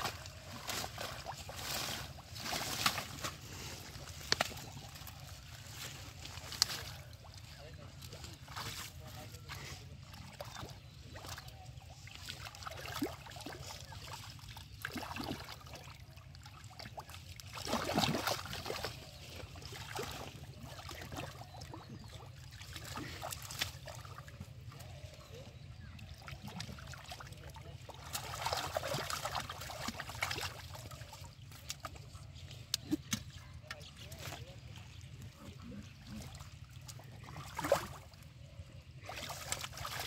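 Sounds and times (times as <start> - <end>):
hands splashing in muddy water: 0.0 - 7.4, 10.2 - 25.2, 26.1 - 35.1, 35.9 - 40.0
water trickling and sloshing: 0.0 - 40.0.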